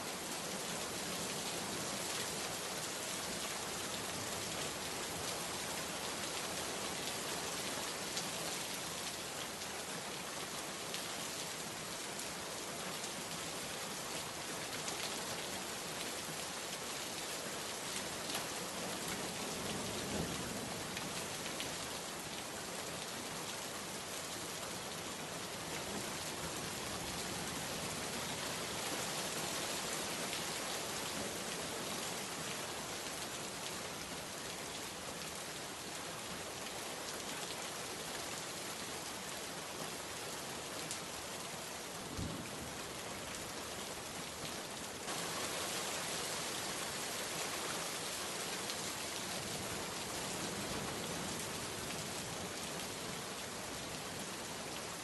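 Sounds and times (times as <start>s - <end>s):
rain hissing on surfaces: 0.0s - 55.0s.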